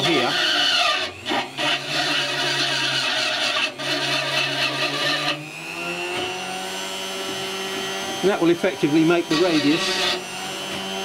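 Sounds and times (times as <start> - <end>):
burr grinding material: 0.0 - 11.0
rotary tool whining: 0.0 - 11.0.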